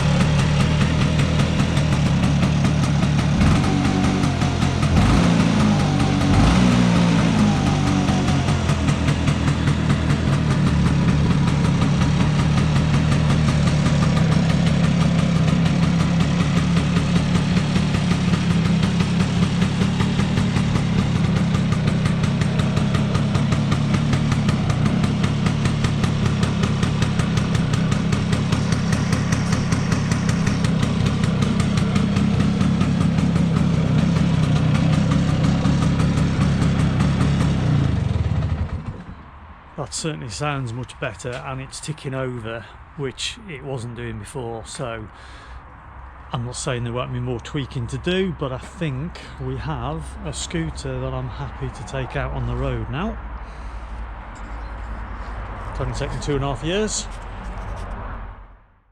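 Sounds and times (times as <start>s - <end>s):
two-stroke engine idling: 0.0s - 39.3s, 47.7s - 57.3s.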